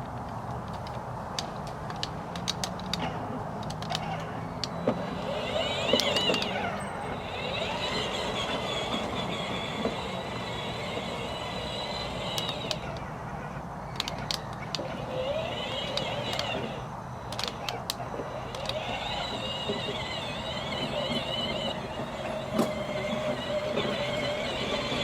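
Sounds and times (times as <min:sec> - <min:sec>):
sharp clicks: 0:00.1 - 0:13.1, 0:13.9 - 0:25.0
toy car motors whining: 0:02.4 - 0:25.0.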